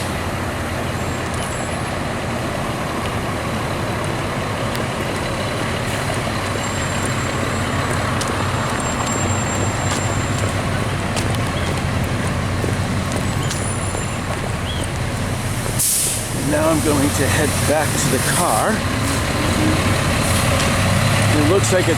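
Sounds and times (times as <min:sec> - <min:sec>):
car and truck engines running: 0:00.0 - 0:21.9.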